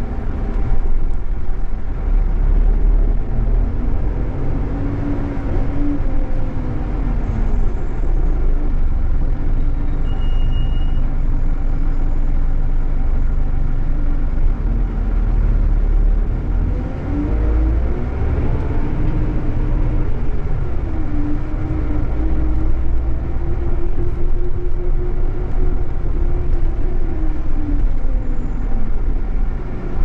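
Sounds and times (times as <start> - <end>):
coach engine rumble: 0.0 - 30.0
road noise: 0.0 - 30.0.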